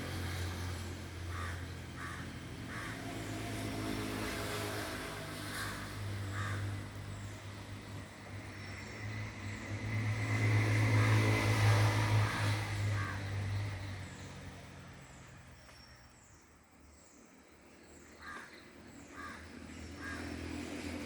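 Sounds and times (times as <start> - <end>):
vehicle passing by: 0.0 - 16.1, 18.2 - 21.0.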